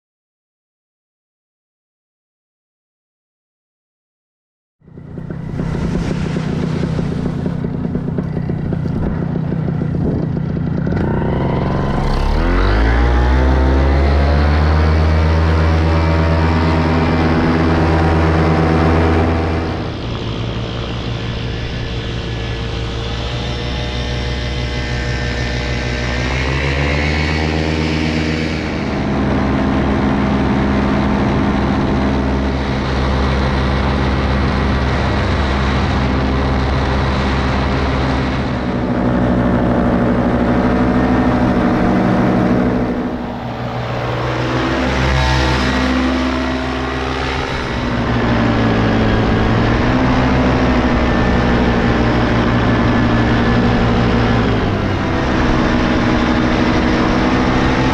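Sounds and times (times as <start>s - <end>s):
paramotor engine and propeller: 4.8s - 57.9s.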